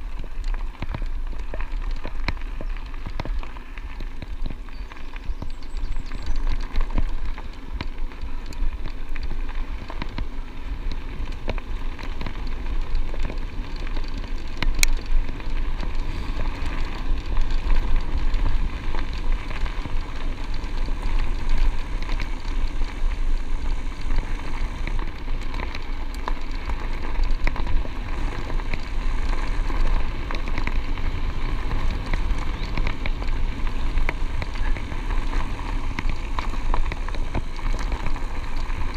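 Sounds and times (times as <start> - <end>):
bicycle tyres on gravel: 0.0 - 38.9.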